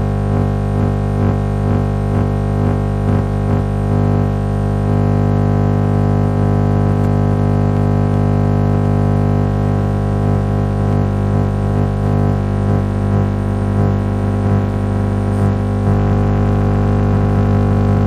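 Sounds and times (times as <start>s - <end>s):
radio interference buzz: 0.0s - 18.0s.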